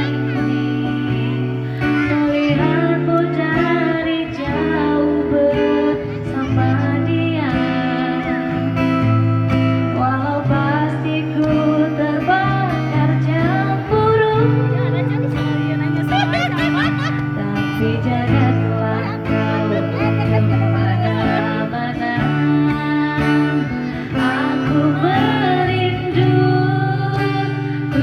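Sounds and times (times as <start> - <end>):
guitar: 0.0 - 28.0
person singing: 0.0 - 28.0.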